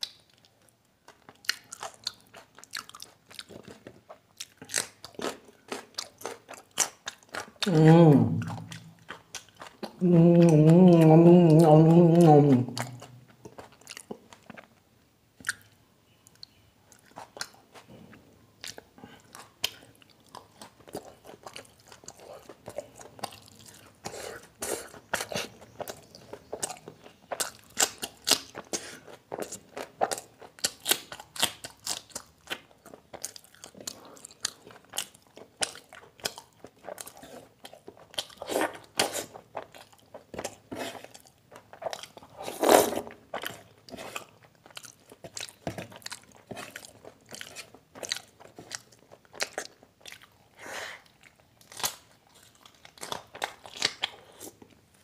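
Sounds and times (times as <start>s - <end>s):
man chewing and biting food: 0.0s - 11.0s, 11.6s - 15.8s, 16.4s - 55.0s.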